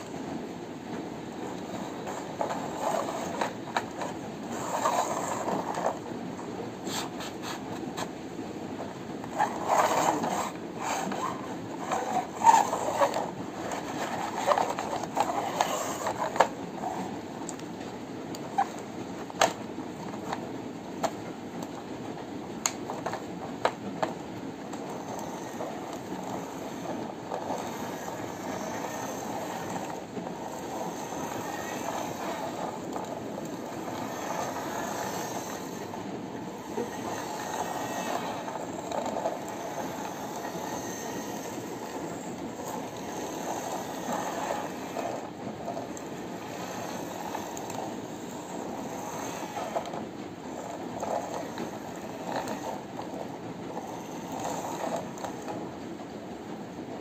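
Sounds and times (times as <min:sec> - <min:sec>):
plastic toy wheels rolling on floor: 0:00.0 - 0:08.1, 0:08.8 - 0:56.2.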